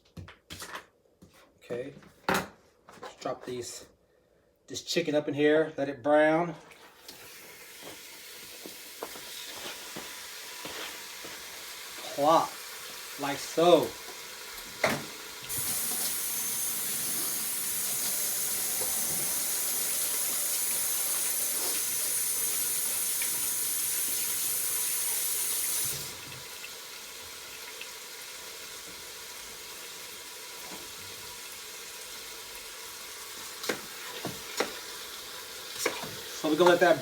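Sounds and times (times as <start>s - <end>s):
kitchen tap running: 6.6s - 37.0s
chicken sizzling in oil: 7.1s - 37.0s.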